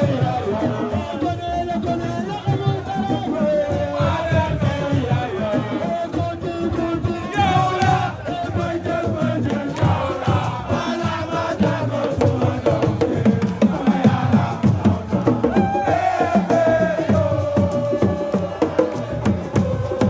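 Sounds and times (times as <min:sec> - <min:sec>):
crowd chanting: 0:00.0 - 0:20.0
fast dense drumming: 0:00.0 - 0:20.0.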